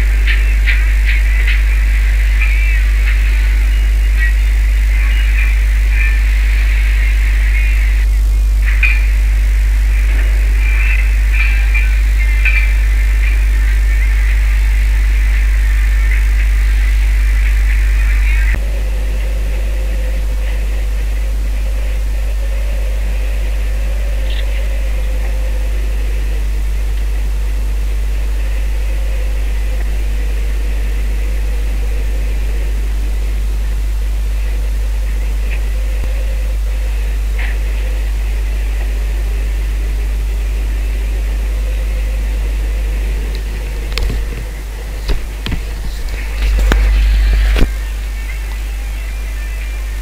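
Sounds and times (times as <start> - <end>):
boat engine droning: 0.0 - 50.0.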